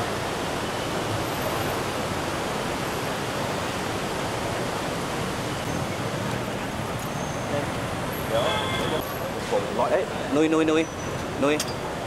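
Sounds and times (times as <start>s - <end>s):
busy city street noise: 0.0s - 12.0s.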